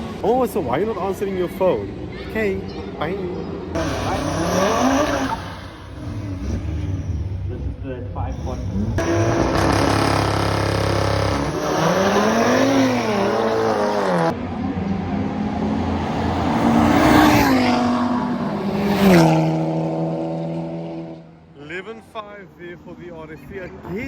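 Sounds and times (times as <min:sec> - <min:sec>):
race car engines revving: 0:00.0 - 0:21.6.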